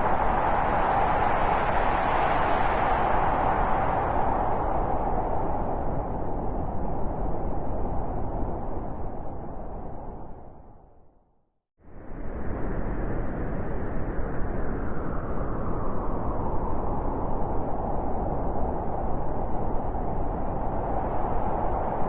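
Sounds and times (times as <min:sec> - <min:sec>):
howling blizzard wind: 0:00.0 - 0:11.0, 0:11.8 - 0:22.0.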